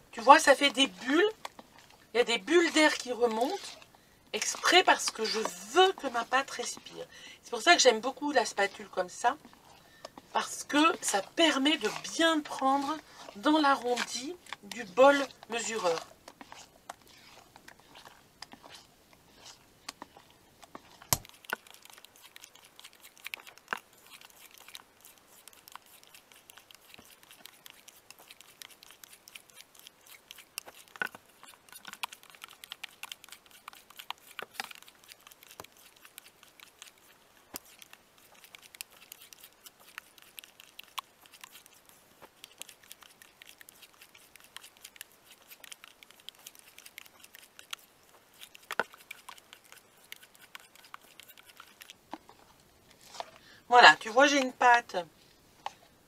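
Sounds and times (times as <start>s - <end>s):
spatula beating wet dough: 0.2s - 52.3s.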